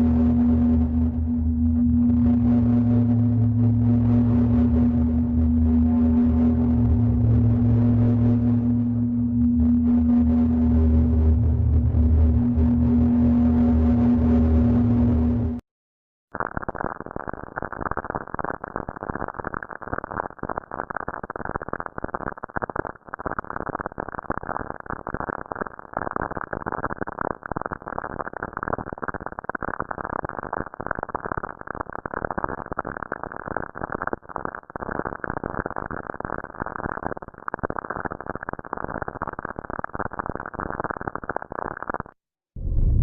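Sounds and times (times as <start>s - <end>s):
crackling radio static: 0.0s - 15.6s, 16.3s - 42.2s.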